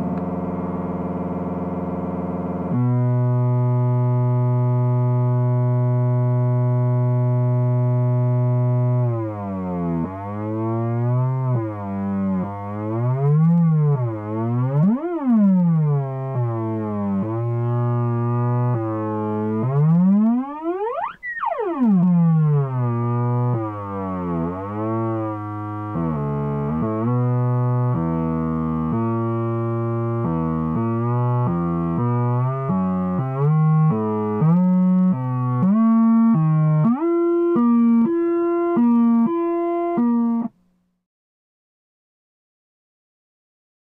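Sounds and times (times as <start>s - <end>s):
synthesized tone gliding in pitch: 2.7s - 40.5s.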